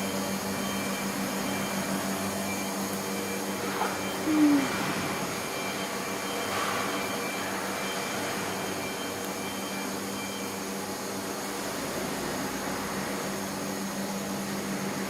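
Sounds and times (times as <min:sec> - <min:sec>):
diesel generator drone and whine: 0:00.0 - 0:15.0.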